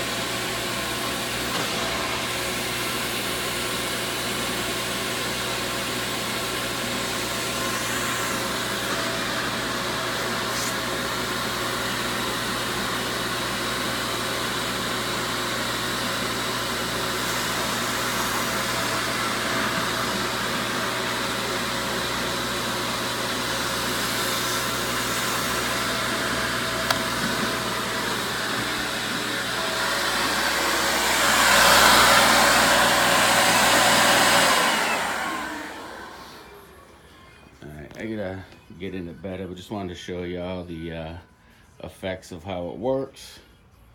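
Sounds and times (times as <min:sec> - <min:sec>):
wet vacuum motor running: 0:00.0 - 0:36.8.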